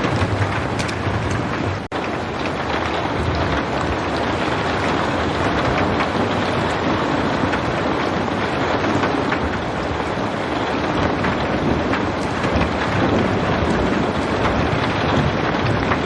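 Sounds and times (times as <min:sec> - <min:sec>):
dense rain falling: 0:00.0 - 0:16.0.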